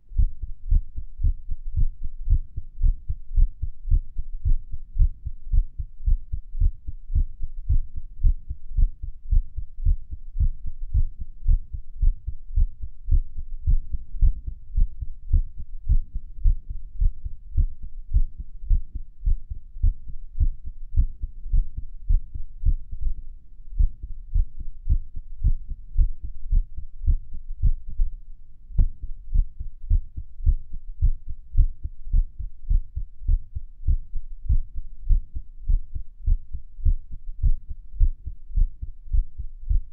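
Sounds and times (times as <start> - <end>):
heartbeat thumps: 0.1 - 23.0, 23.8 - 39.9.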